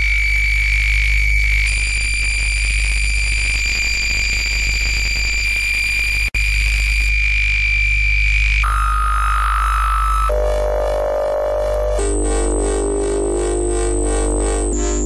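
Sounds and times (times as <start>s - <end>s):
electronic buzz with high whine: 0.0s - 15.0s.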